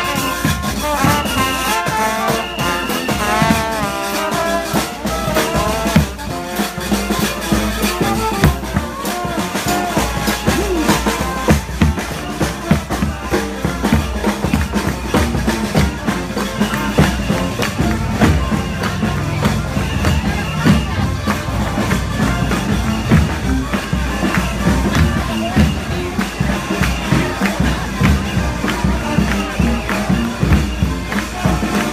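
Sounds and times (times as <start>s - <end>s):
bass drum and snare beat: 0.0s - 31.9s
brass band horns: 0.0s - 31.9s.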